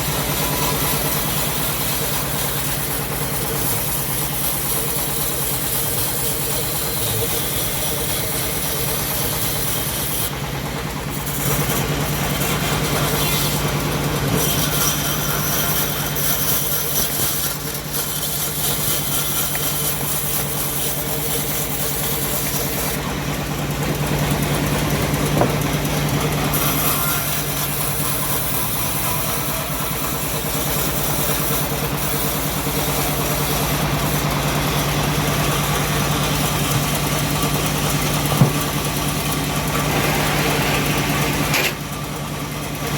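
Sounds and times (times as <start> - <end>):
bandsaw blade sawing log: 0.0 - 42.9
sawmill engine humming: 0.0 - 42.9.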